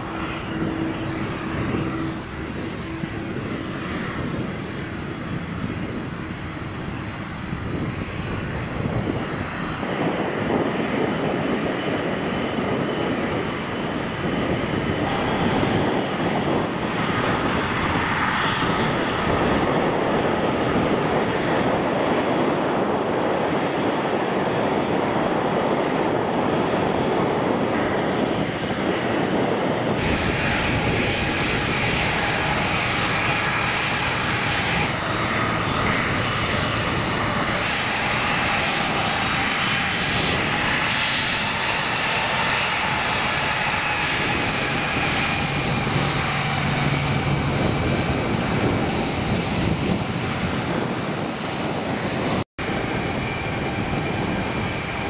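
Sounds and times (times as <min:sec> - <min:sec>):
high engine whine: 0:00.0 - 0:55.0
jet engines running: 0:00.0 - 0:55.0.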